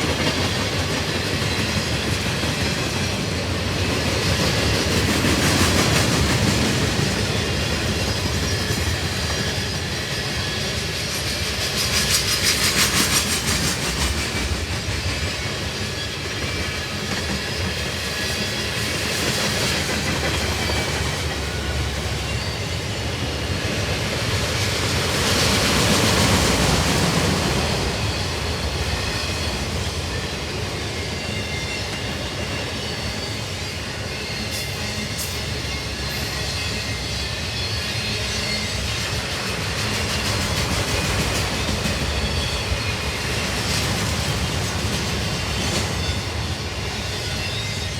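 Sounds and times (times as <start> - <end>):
freight train wheels clattering: 0.0 - 47.9.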